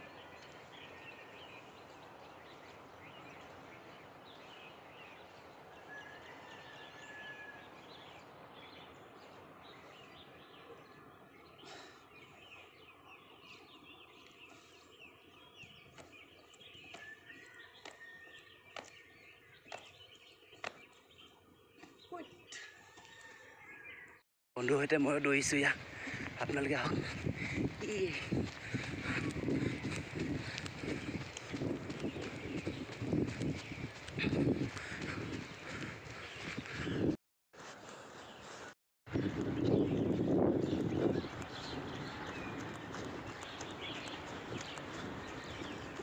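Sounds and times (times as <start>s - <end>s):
small birds chirping: 0.0s - 6.2s, 7.7s - 46.0s.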